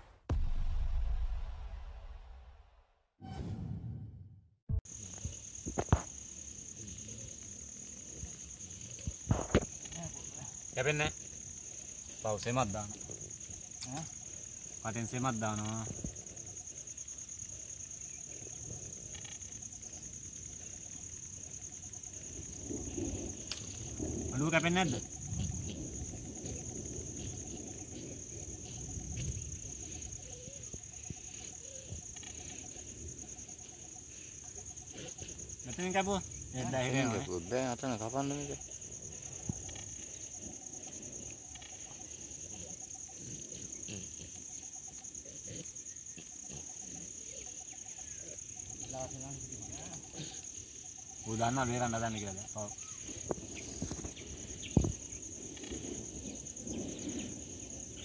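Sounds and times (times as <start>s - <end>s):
high-pitched insect drone: 4.9s - 58.0s.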